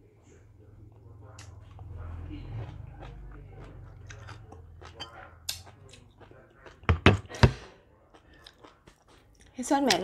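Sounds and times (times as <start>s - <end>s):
chewing with wet clicks and pops: 0.8s - 6.9s, 7.9s - 10.0s.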